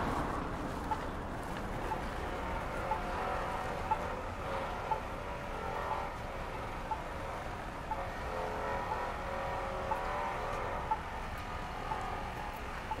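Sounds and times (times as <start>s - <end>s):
car traffic passing and idling: 0.0s - 13.0s
pedestrian signal ticking: 0.8s - 1.1s, 1.8s - 13.0s.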